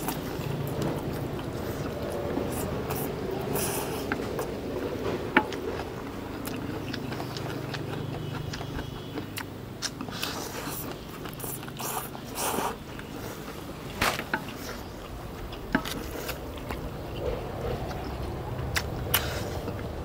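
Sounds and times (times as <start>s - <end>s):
chewing: 0.0s - 20.0s
low steady hum: 0.0s - 20.0s.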